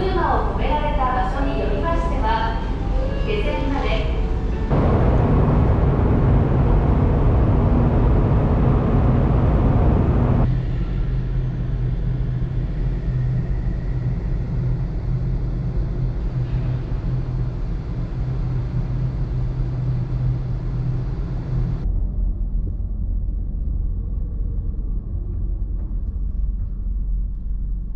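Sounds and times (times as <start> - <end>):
vehicle engine drone: 1.6 - 26.3.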